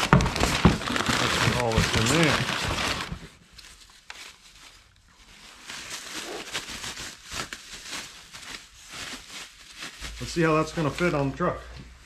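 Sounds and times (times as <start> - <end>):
bubble wrap and paper rustling: 0.0 - 12.0.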